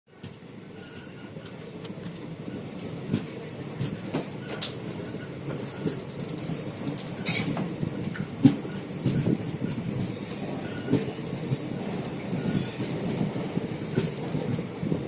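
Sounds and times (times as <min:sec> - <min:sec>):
train rumbling on track: 0:00.1 - 0:15.0
wheels clacking over rail joints: 0:00.9 - 0:14.6.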